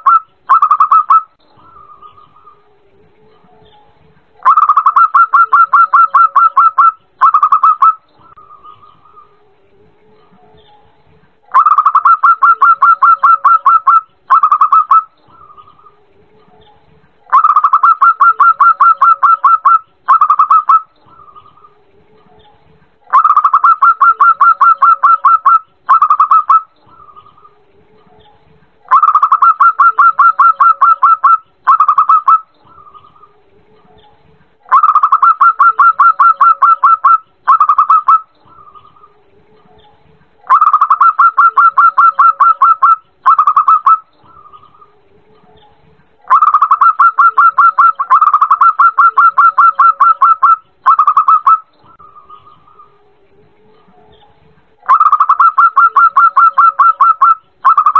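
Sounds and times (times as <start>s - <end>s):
dove cooing: 0.0s - 3.8s, 4.4s - 10.7s, 11.4s - 28.3s, 28.9s - 57.9s.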